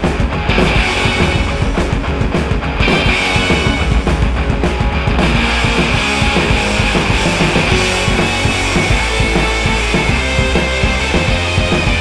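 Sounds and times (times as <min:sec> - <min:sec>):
drum kit beat: 0:00.0 - 0:12.0
loud rock music: 0:00.0 - 0:12.0.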